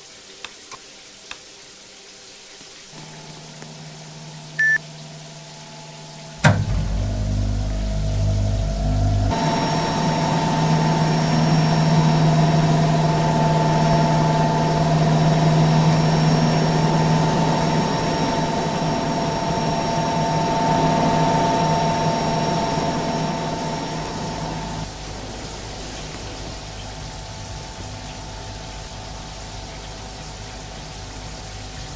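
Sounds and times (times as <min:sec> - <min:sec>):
cooling appliance humming: 0:02.9 - 0:31.9.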